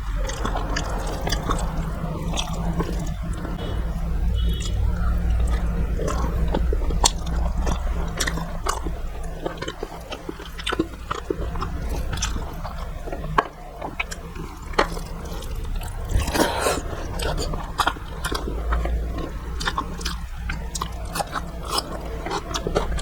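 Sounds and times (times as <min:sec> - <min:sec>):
person chewing food: 0:00.2 - 0:03.6, 0:05.4 - 0:23.0.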